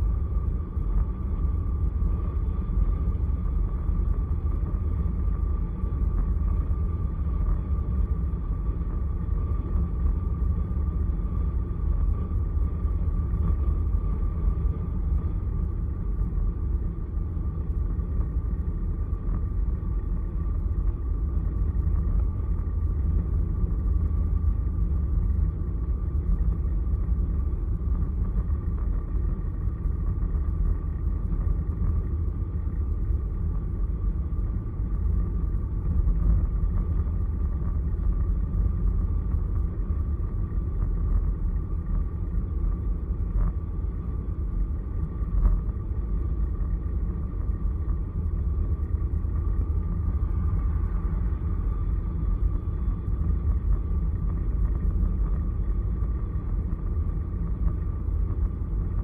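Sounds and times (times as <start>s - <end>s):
car road and wind noise: 0.0s - 59.0s
faint steady whine: 0.0s - 59.0s.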